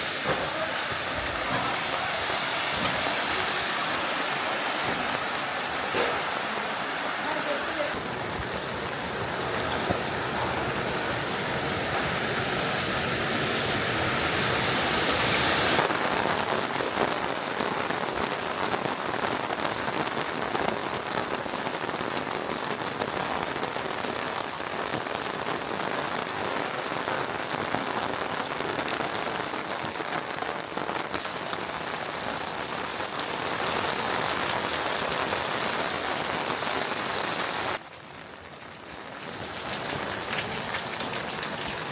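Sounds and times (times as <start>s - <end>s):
rain spattering on surfaces: 0.0s - 41.9s.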